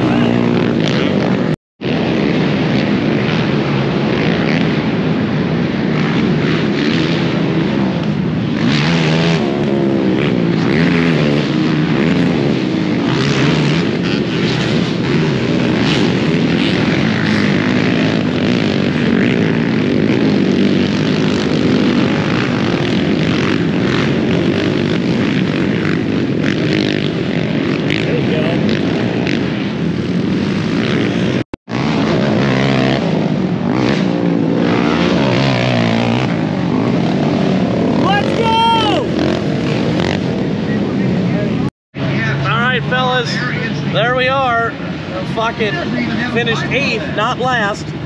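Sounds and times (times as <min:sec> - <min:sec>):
quad engines revving: 0:00.0 - 0:05.2, 0:05.8 - 0:48.0.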